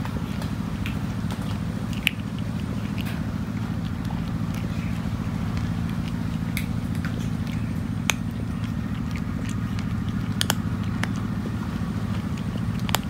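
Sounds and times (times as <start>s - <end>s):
cat crunching dry kibble: 0.0s - 13.0s
steady low motor hum: 0.0s - 13.0s.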